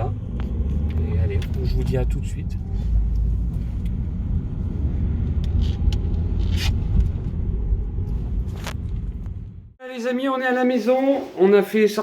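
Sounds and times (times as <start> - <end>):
car engine and road noise: 0.0 - 9.8.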